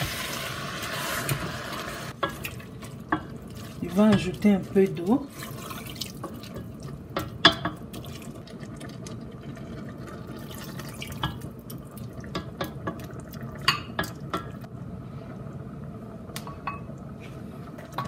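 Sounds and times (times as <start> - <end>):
pot simmering: 0.0 - 18.0.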